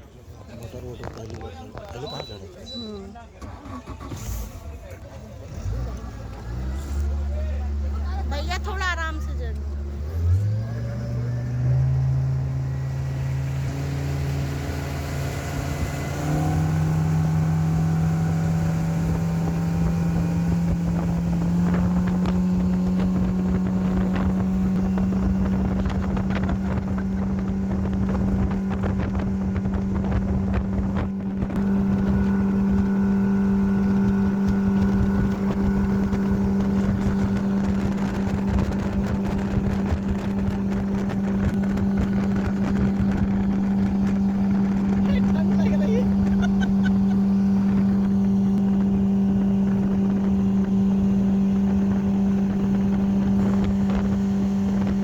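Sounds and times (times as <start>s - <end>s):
speedboat engine: 0.0s - 55.0s
wind buffeting microphone: 8.1s - 55.0s.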